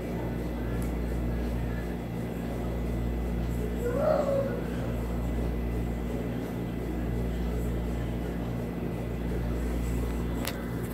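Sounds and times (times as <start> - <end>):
low mechanical hum: 0.0 - 10.9.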